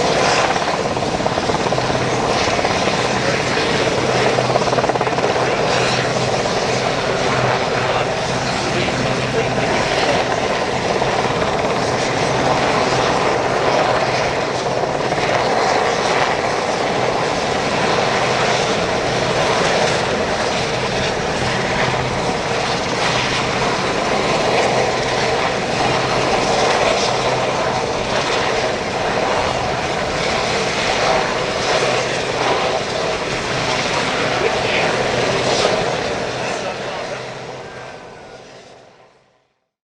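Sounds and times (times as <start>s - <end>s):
helicopter rotor and turbine: 0.0s - 39.7s.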